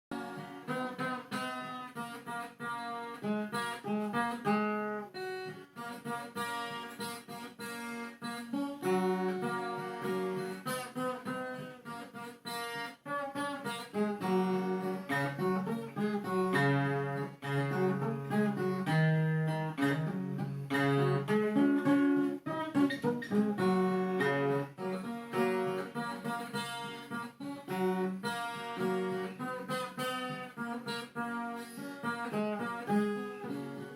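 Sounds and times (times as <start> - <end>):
plucked guitar solo: 0.1 - 33.9.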